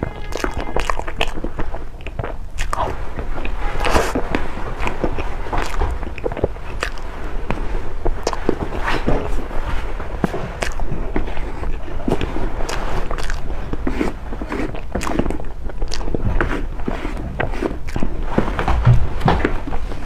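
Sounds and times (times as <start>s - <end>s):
wet chewing sounds: 0.0s - 20.0s.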